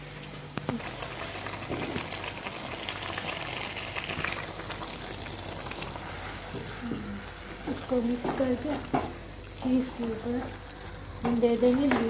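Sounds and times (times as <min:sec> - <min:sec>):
curry sizzling and bubbling in pan: 0:00.7 - 0:12.0.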